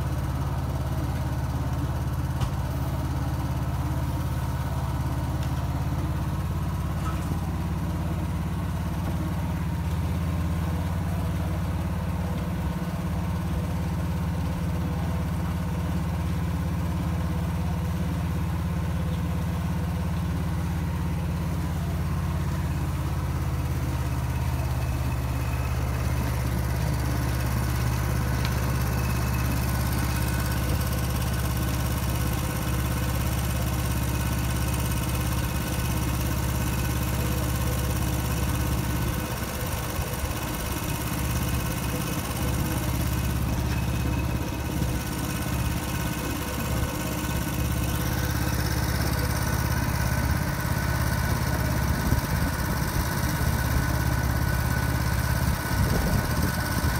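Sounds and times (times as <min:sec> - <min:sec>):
concrete mixer engine running: 0:00.0 - 0:56.9.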